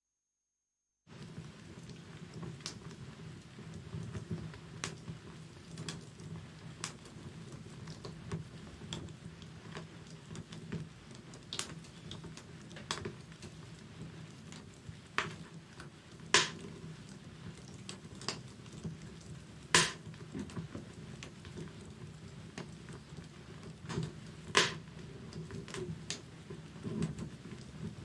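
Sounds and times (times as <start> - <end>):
wood fire crackling: 1.1 - 28.0.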